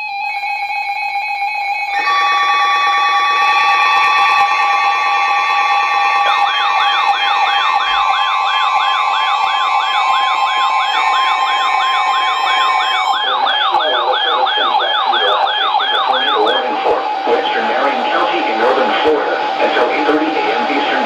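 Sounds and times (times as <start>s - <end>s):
swooping siren alert tone: 0.0s - 21.0s
two-tone attention signal: 2.0s - 21.0s.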